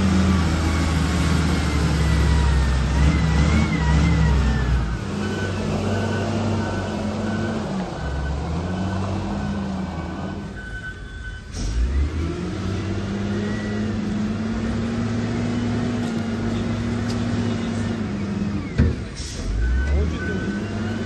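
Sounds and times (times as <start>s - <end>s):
heavy machinery engine running: 0.0s - 21.0s.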